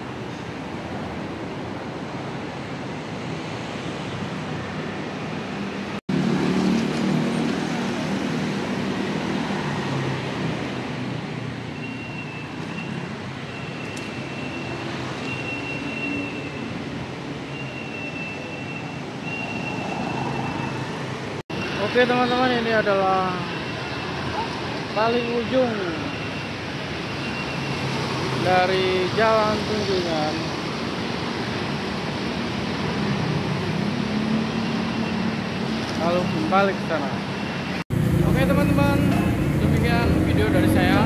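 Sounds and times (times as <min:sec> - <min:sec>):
passing vehicles: 0:00.0 - 0:41.0.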